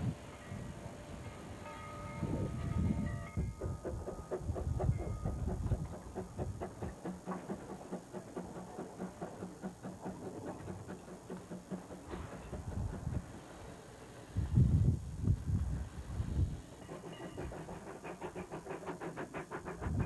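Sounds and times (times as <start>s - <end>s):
steam train running: 0.0s - 20.0s.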